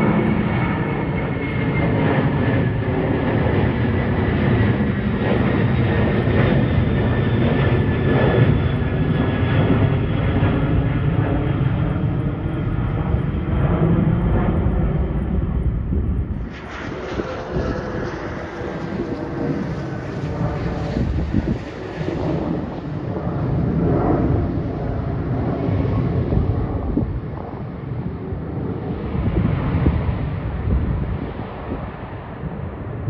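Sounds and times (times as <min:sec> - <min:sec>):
high jet whine: 0:00.0 - 0:33.0
jet engines roaring overhead: 0:00.0 - 0:33.0.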